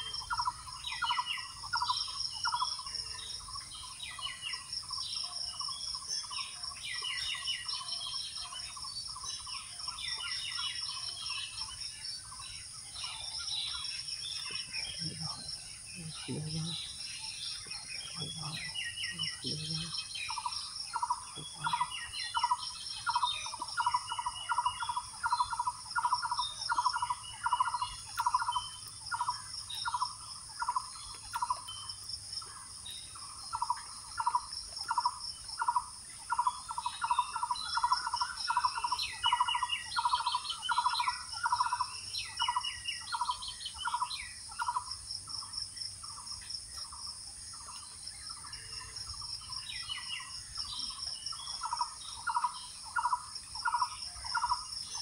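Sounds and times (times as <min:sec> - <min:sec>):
birds chirping: 0:00.0 - 0:55.0
insects droning: 0:00.0 - 0:55.0.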